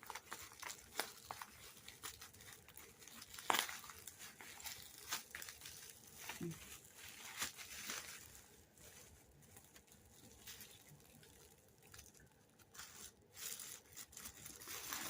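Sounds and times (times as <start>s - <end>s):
packaging being unwrapped: 0.0s - 15.0s.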